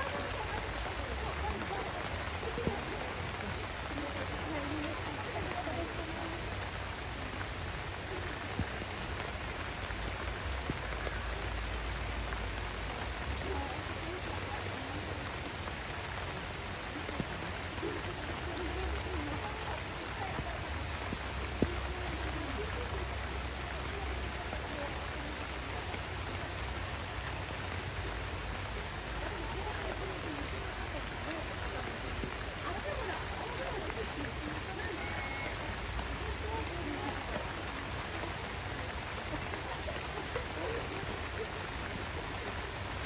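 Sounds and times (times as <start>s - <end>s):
heavy rain downpour: 0.0s - 43.0s.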